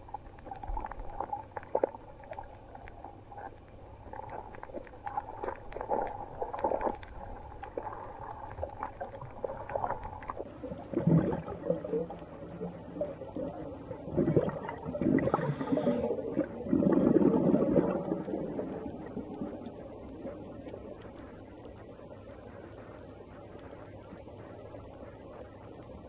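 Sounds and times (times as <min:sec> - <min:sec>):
sharp underwater clicks and snaps: 0:00.0 - 0:26.0
underwater bubbling and rumbling: 0:00.0 - 0:26.0.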